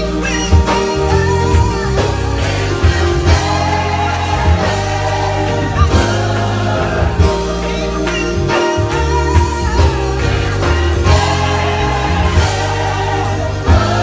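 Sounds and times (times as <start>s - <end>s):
band accompaniment: 0.0s - 14.0s
gospel choir singing: 0.0s - 14.0s.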